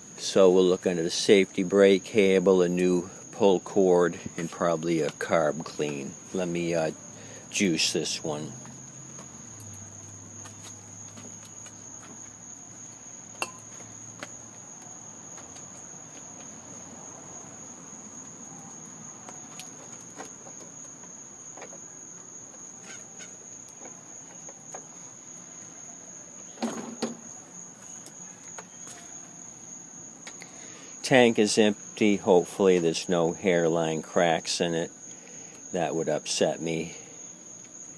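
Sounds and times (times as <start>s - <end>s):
crickets trilling: 0.0s - 37.9s.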